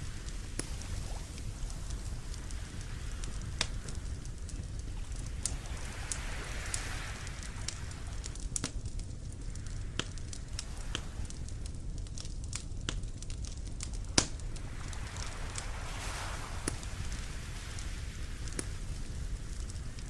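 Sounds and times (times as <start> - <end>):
campfire crackling: 0.0 - 20.0
low rumble: 0.0 - 20.0.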